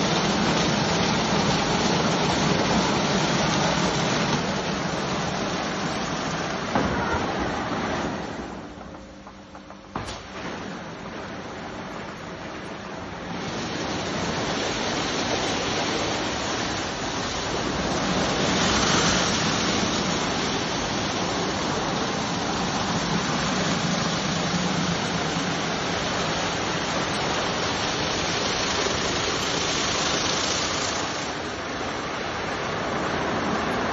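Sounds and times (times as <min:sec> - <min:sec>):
car wash brushes and water jets: 0:00.0 - 0:33.9.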